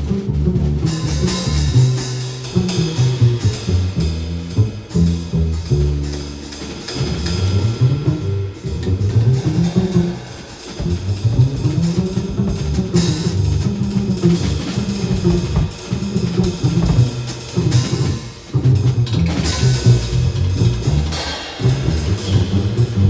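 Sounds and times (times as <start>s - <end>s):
drum kit and cymbals: 0.0s - 23.0s
upright bass: 0.0s - 23.0s.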